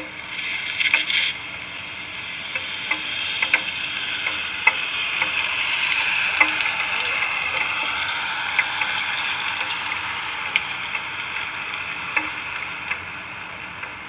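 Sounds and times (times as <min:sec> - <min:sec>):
sharp crackles and clicks: 0:00.0 - 0:14.0
steady rain hiss: 0:00.0 - 0:14.0.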